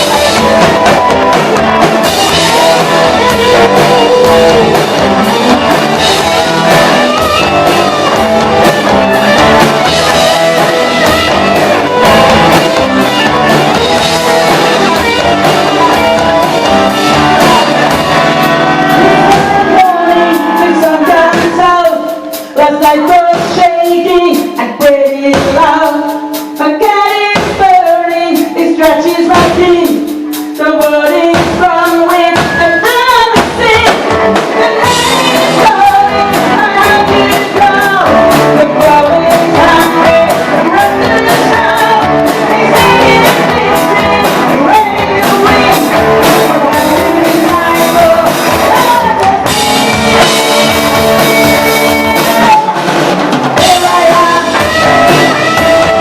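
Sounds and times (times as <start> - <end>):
rock song with singing: 0.0 - 56.0.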